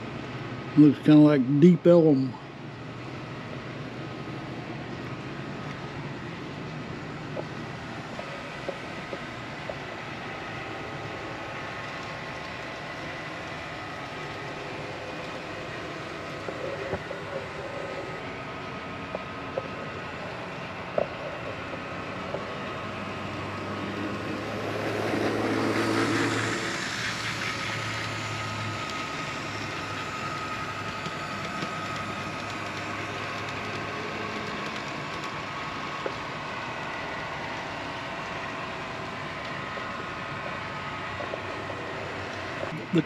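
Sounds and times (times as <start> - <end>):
model train running on track: 0.0 - 43.0.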